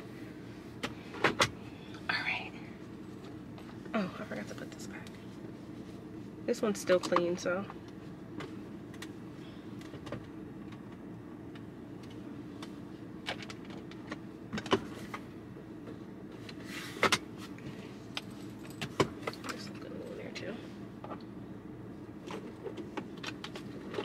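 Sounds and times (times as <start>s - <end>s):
low cabin hum: 0.0s - 24.0s.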